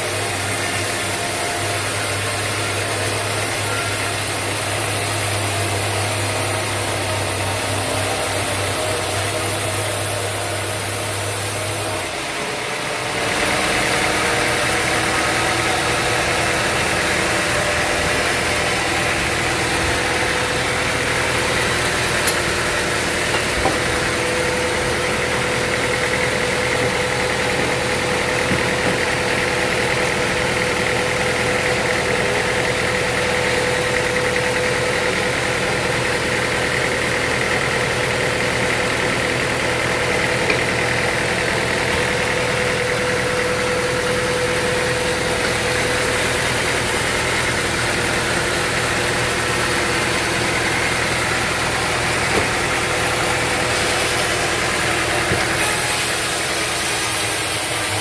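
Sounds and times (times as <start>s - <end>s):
sawmill machinery hum: 0.0s - 58.0s
machinery whine: 0.1s - 57.9s.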